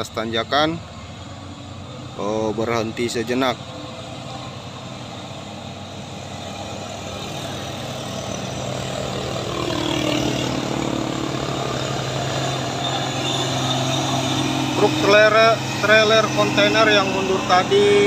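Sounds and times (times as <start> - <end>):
diesel truck engines humming: 0.0 - 18.0.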